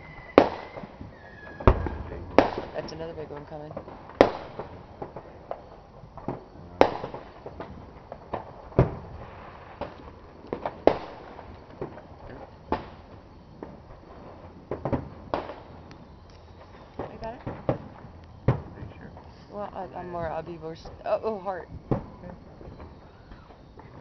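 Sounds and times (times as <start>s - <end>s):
fireworks bangs: 0.0s - 24.0s
firework pops: 0.4s - 24.0s.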